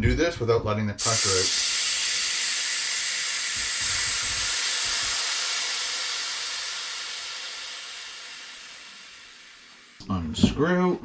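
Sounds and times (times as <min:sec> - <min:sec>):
compressed air hissing: 0:01.0 - 0:10.2.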